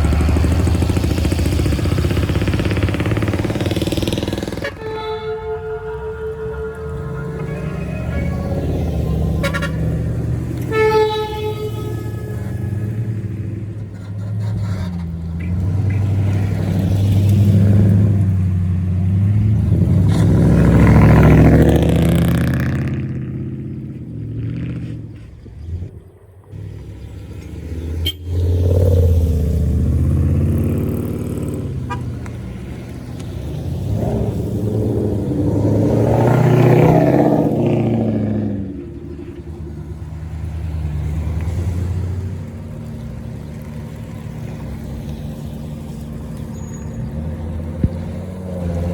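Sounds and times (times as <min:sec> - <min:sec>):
cars driving past: 0:00.0 - 0:48.9.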